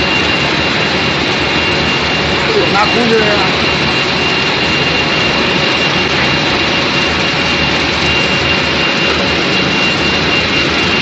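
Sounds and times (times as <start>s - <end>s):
constant high whine: 0.0s - 11.0s
loud steady machinery noise: 0.0s - 11.0s.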